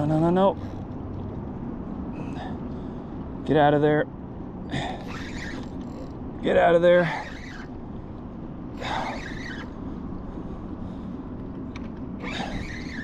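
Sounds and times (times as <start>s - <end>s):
faint steady hum: 0.0s - 13.0s
steady low rumble: 0.0s - 13.0s.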